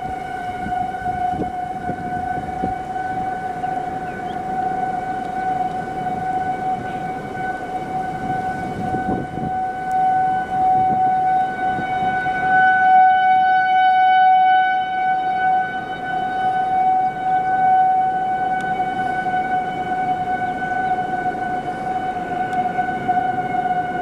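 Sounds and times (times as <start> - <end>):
warning siren steady tone: 0.0 - 24.0.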